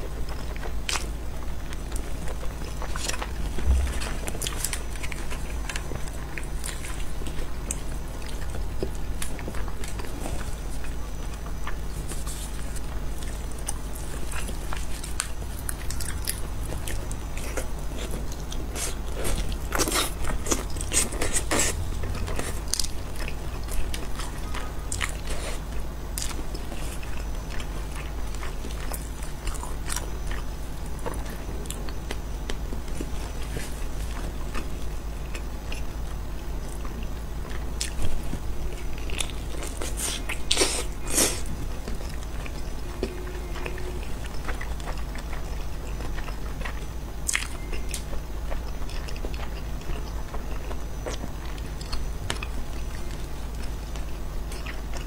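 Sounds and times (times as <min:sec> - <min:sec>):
crackles: 0:00.1 - 0:55.0
chewing and biting meat: 0:00.2 - 0:55.0.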